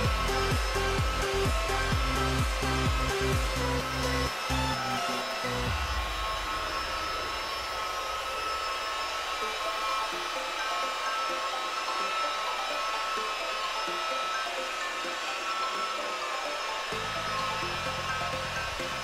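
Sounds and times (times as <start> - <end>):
electric polisher motor whine: 0.0 - 19.0.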